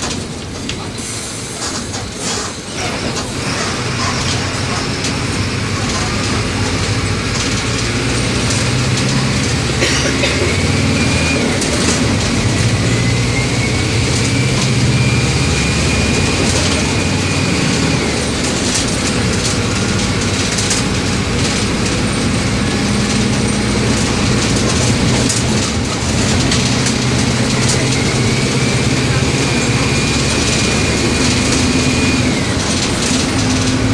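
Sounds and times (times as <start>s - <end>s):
bus diesel engine running: 0.0s - 33.9s.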